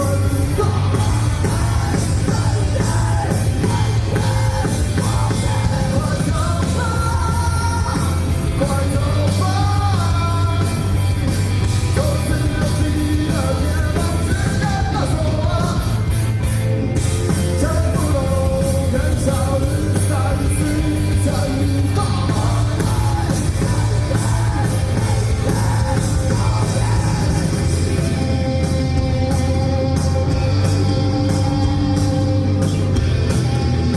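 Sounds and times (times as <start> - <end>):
heavy bass: 0.0 - 33.9
rock band playing live: 0.0 - 33.9.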